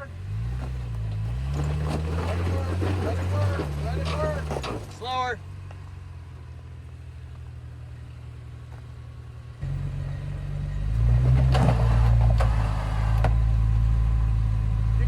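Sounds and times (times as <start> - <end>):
engine crawling at low throttle: 0.0 - 15.0.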